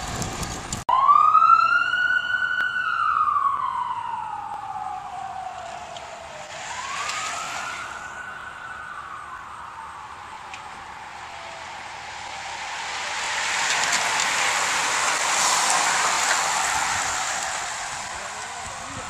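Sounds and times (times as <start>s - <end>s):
siren wailing: 0.9s - 19.0s.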